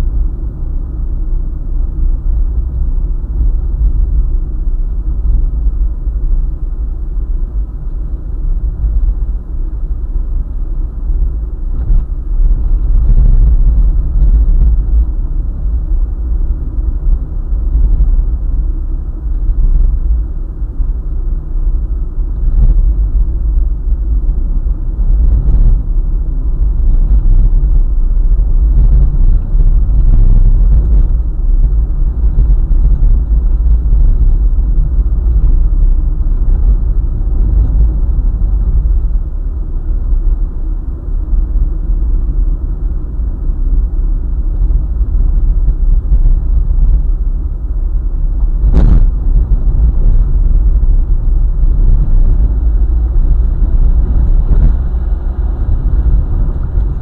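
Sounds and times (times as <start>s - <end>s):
vehicle road rumble: 0.0s - 57.0s.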